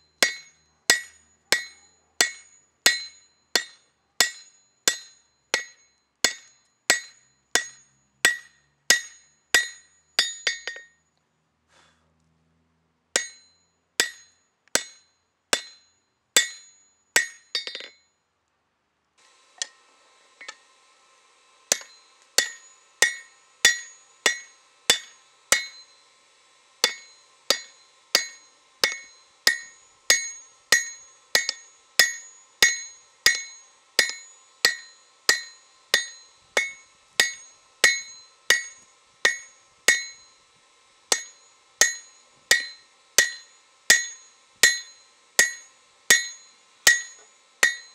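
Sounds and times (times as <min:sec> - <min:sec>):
faint steady hum: 0:00.0 - 0:47.9
hammer striking steel on anvil: 0:00.1 - 0:11.0, 0:13.2 - 0:18.1, 0:20.4 - 0:20.7, 0:21.7 - 0:40.5, 0:41.1 - 0:47.9.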